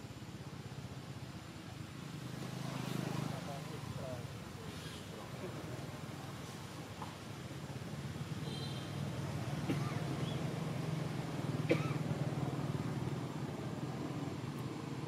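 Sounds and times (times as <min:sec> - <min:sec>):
passing vehicle engine hum: 0:01.3 - 0:06.9, 0:07.8 - 0:15.0.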